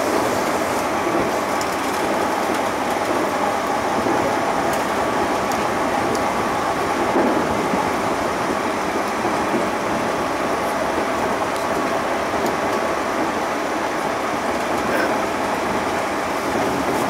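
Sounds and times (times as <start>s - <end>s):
train wheels rolling on rail: 0.0s - 17.0s.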